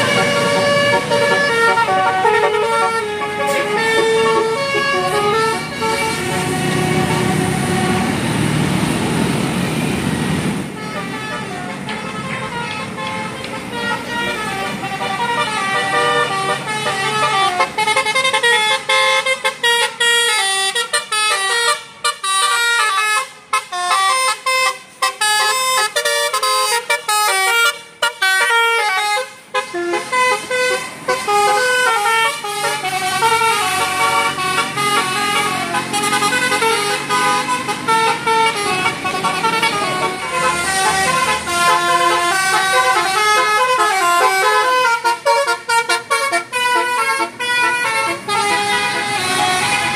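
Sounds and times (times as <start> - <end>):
bus musical horn playing a tune: 0.0 - 8.4, 10.8 - 49.9.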